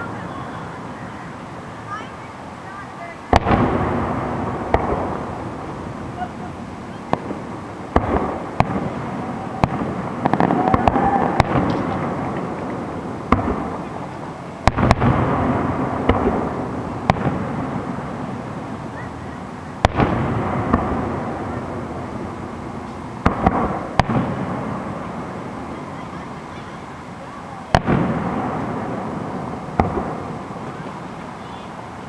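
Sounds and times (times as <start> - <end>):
fireworks bursting with echo: 0.0 - 32.0.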